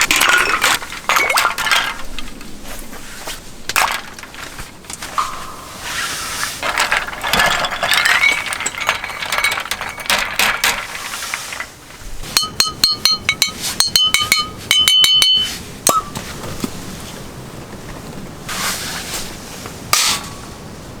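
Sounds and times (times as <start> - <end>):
handling noise and clatter: 0.0 - 21.0.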